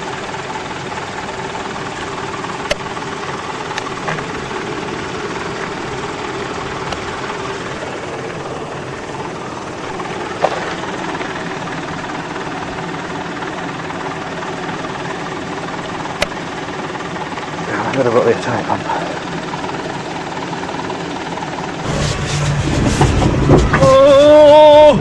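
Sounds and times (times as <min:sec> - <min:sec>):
off-road vehicle engine idling: 0:00.0 - 0:25.0.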